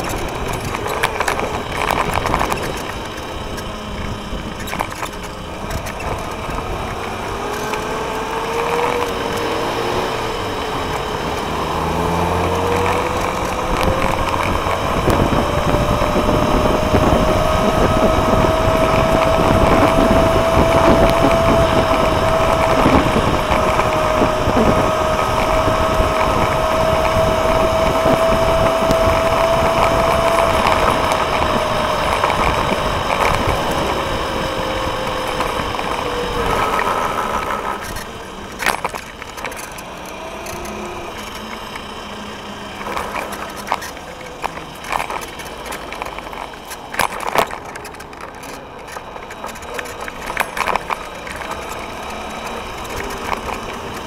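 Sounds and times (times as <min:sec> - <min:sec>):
electric scooter motor whine: 0:00.0 - 0:54.0
wind and tyre noise: 0:00.0 - 0:54.0.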